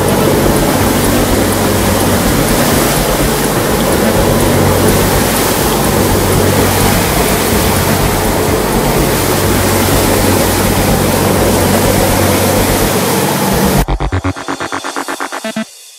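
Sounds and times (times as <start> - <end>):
wind and water noise: 0.0 - 14.0
boat engine drone: 0.0 - 15.7.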